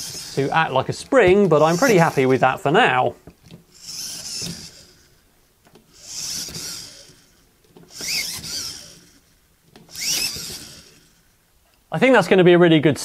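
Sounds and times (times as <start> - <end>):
servos whirring: 0.0 - 11.5.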